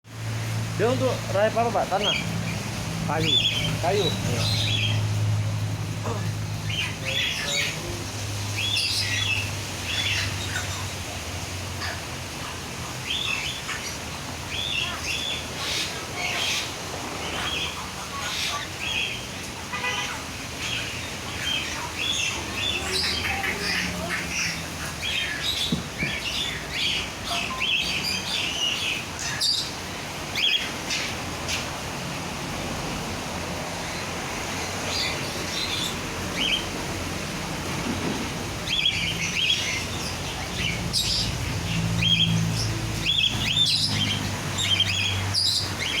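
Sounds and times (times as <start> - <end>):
songbirds chirping: 0.1 - 46.0.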